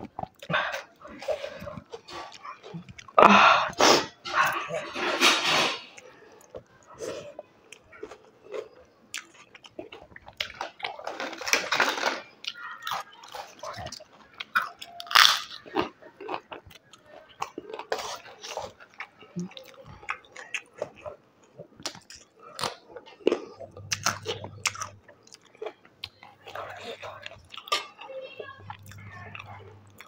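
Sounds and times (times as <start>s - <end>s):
person crunching food: 4.0s - 30.0s.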